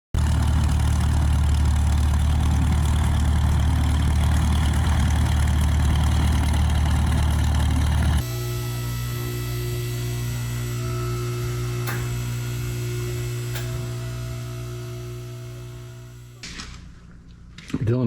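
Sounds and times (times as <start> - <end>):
engine idling: 0.2 - 17.1.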